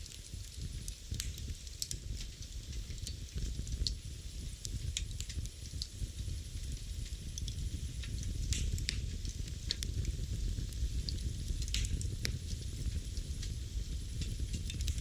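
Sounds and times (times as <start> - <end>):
fire flames rumbling: 0.0 - 15.0
fire popping and crackling: 0.0 - 15.0.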